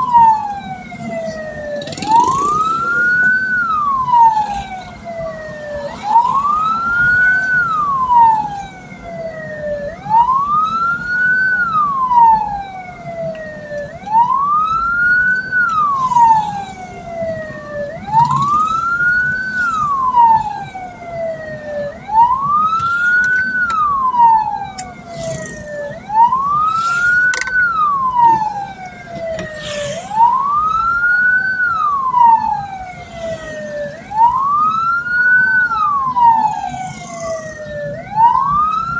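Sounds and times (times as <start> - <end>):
road and engine rumble: 0.0 - 38.9
siren wailing: 0.0 - 38.9.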